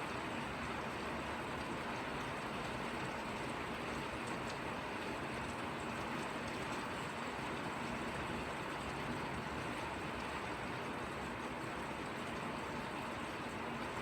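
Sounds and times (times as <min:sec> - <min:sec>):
drizzling rain: 0:00.0 - 0:14.0.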